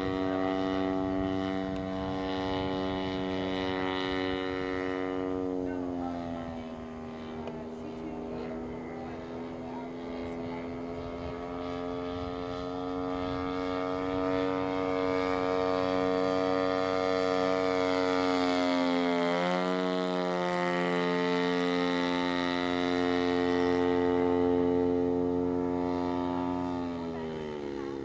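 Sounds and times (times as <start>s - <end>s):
model plane engine droning: 0.0s - 28.0s.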